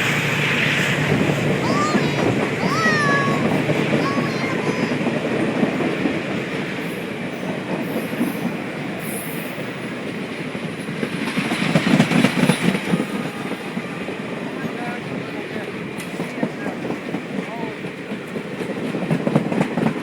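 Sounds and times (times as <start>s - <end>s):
train wheels rumbling on rails: 0.0s - 20.0s
wheels clicking over rail joints: 1.2s - 20.0s.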